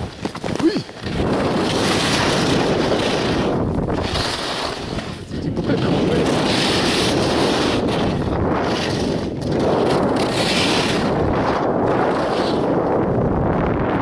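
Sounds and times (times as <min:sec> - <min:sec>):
skis carving snow: 0:00.0 - 0:13.2
wind on microphone: 0:00.0 - 0:14.0.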